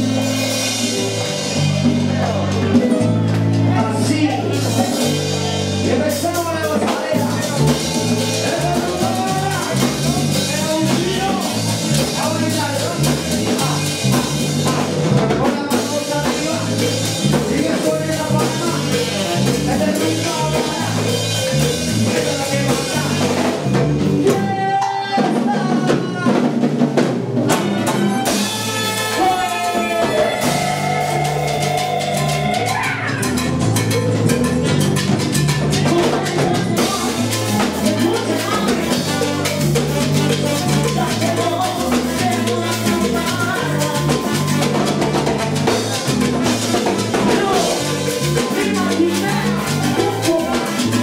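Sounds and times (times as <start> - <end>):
dance band playing: 0.0 - 51.0.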